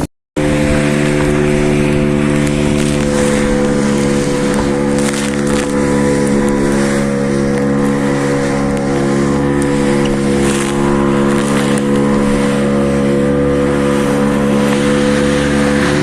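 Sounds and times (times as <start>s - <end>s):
boat engine drone: 0.0s - 16.0s
wind and water hiss: 0.0s - 16.0s.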